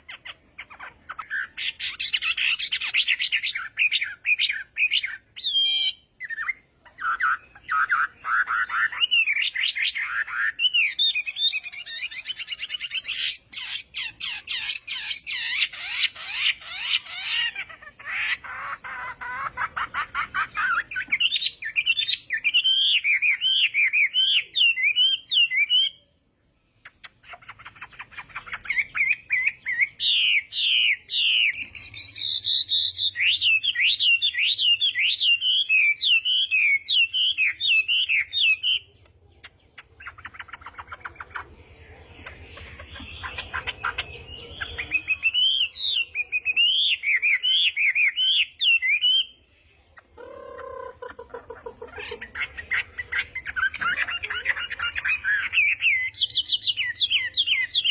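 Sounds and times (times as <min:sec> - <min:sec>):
bird warbling song: 0:00.0 - 0:57.9.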